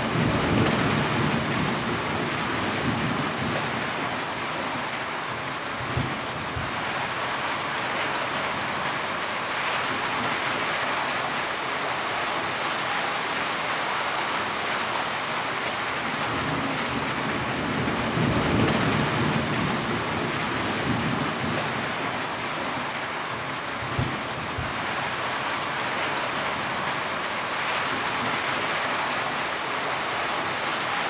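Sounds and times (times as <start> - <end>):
heavy rainfall: 0.0 - 31.0.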